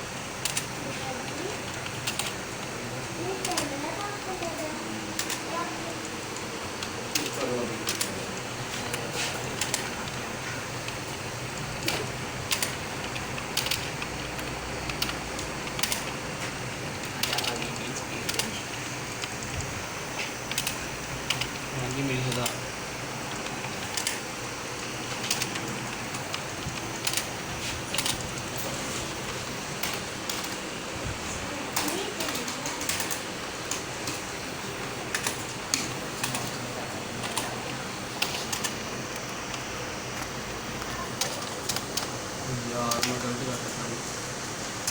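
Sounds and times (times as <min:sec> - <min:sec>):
steady low hum: 0:00.0 - 0:44.9
keyboard keys typing: 0:00.4 - 0:30.7, 0:31.6 - 0:43.6.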